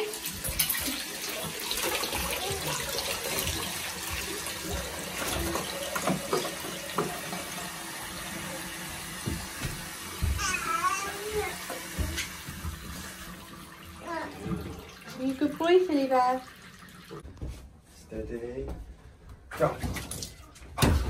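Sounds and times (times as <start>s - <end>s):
water splashing: 0.0s - 17.2s
water running into bathtub: 0.0s - 17.5s, 19.5s - 21.0s.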